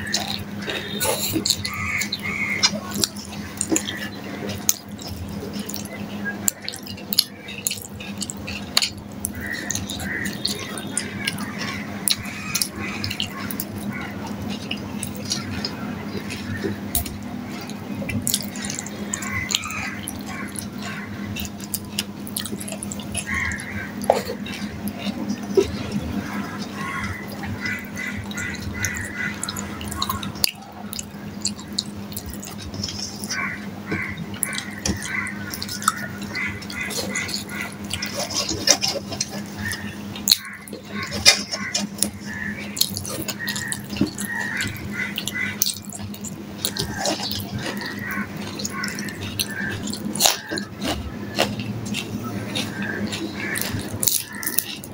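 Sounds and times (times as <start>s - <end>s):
fingers gathering food on steel plate: 0.0s - 54.9s
wet chewing and lip-smacking: 0.0s - 54.9s.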